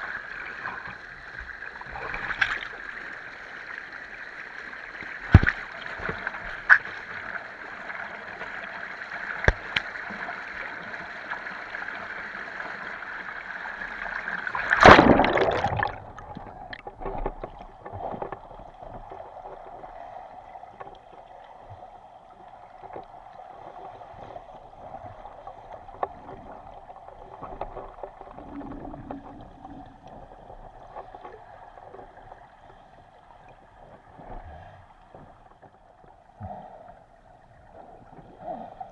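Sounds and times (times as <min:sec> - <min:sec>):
rushing river water underwater: 0:00.0 - 0:38.9.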